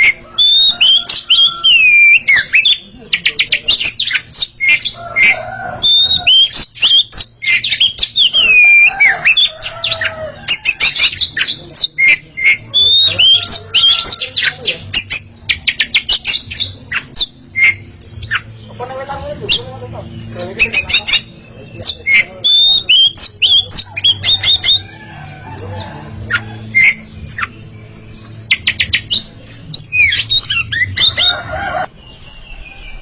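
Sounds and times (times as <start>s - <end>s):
birds singing whistles and trills: 0.0s - 33.0s.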